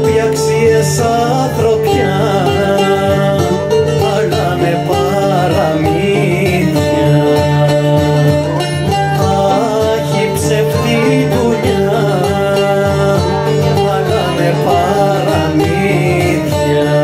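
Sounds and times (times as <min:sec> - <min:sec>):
plucked strings folk music: 0:00.0 - 0:17.0.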